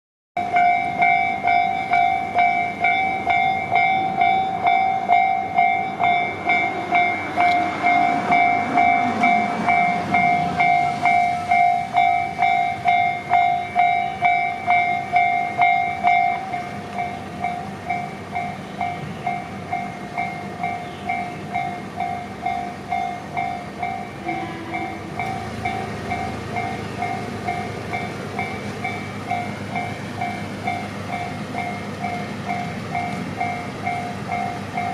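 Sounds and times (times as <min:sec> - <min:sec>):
level crossing bell ringing: 0:00.4 - 0:34.9
train wheels clicking: 0:00.4 - 0:34.9
train whine: 0:00.4 - 0:34.9.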